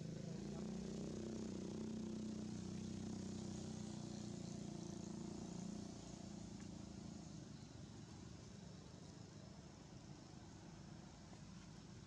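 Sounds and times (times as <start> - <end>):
faint low engine drone: 0.0 - 12.0.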